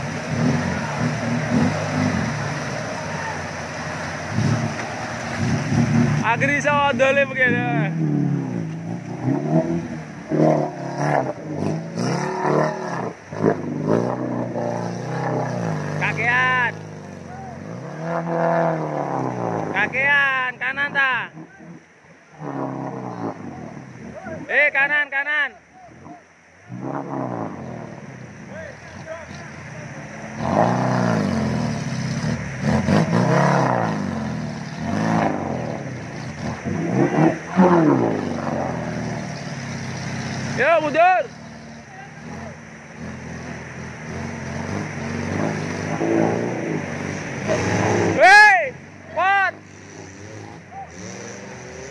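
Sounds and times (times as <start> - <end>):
off-road vehicle engine revving: 0.0 - 51.9
vehicle churning through water: 0.0 - 51.9.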